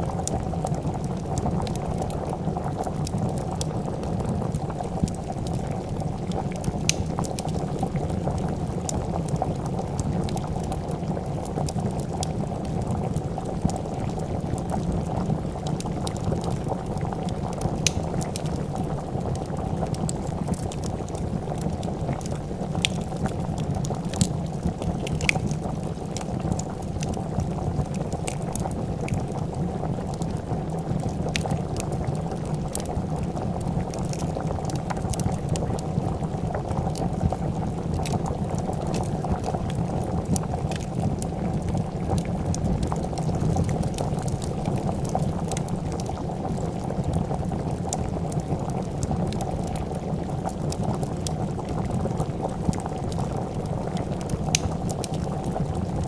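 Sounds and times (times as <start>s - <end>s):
soup bubbling in a pot: 0.0s - 56.0s
wood fire crackling: 0.0s - 56.0s.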